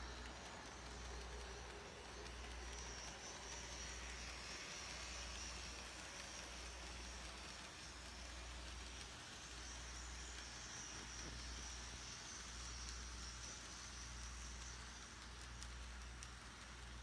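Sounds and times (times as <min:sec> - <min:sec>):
model train whirring: 0:00.0 - 0:17.0.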